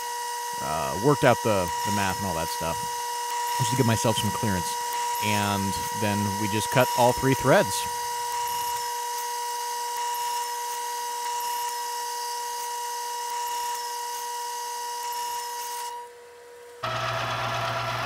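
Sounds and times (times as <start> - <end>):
lathe whining and hissing: 0.0 - 18.0.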